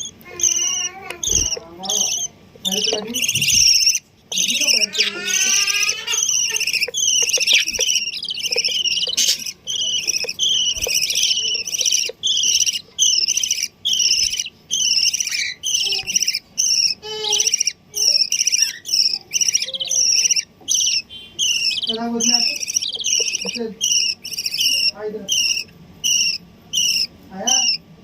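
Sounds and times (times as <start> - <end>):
chicks chirping shrilly: 0.0 - 27.8.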